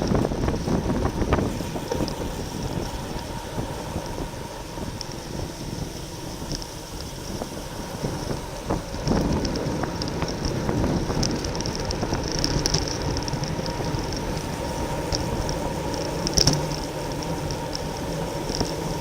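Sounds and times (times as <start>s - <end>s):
road and bicycle noise: 0.0s - 19.0s
wind rushing over microphone: 0.0s - 19.0s.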